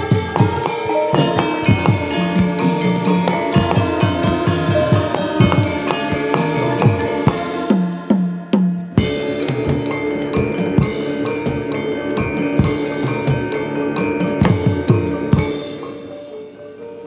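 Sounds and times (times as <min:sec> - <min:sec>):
hand drum strokes: 0:00.0 - 0:17.0
ringing metal percussion: 0:00.0 - 0:17.0.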